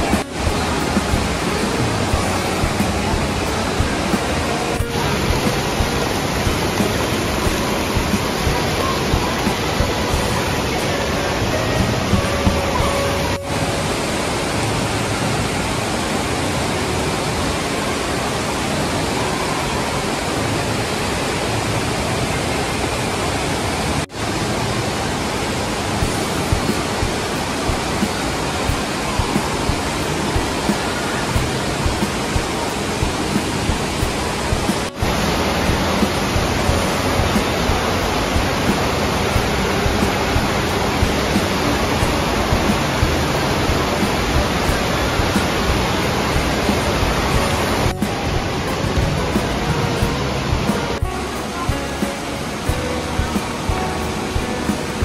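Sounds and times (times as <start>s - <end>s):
surf simulator water rushing: 0.0s - 55.0s
water spraying and falling: 0.0s - 55.0s.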